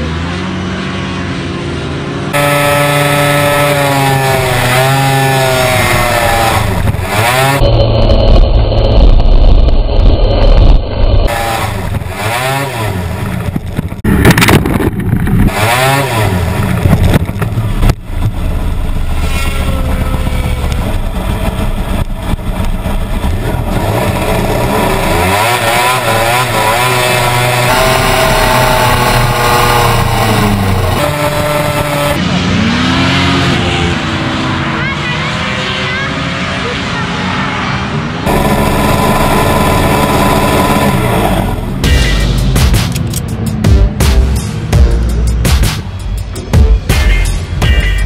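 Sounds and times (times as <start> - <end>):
hovercraft engine revving: 2.0 - 45.4.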